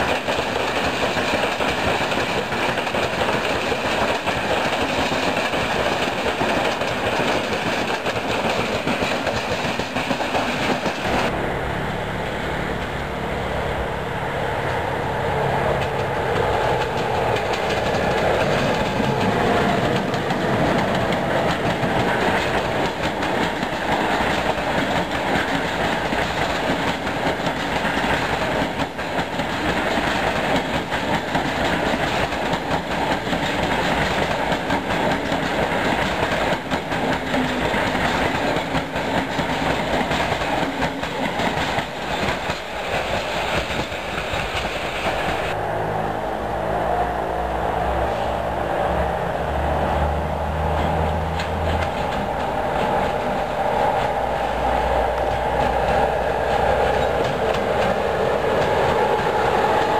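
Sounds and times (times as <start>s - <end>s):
passenger train running past: 0.0s - 59.9s.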